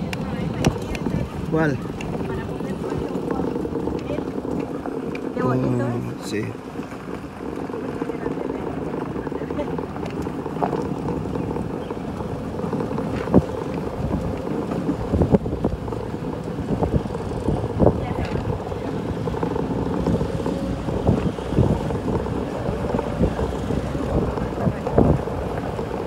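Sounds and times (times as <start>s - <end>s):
vehicle low rumble and hum: 0.0s - 26.0s
wind buffeting microphone: 0.0s - 26.0s.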